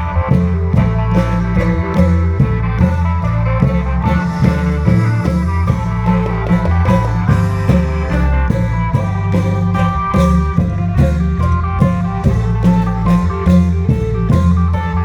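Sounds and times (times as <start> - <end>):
amplified folk melody: 0.0 - 15.0
steady drum beat: 0.0 - 15.0.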